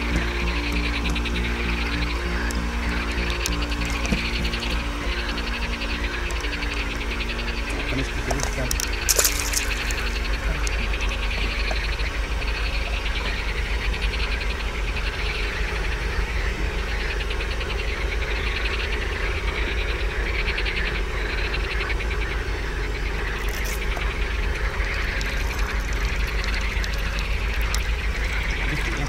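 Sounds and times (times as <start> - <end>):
steady low rumble: 0.0 - 29.0
trilling animal calls: 0.0 - 29.0.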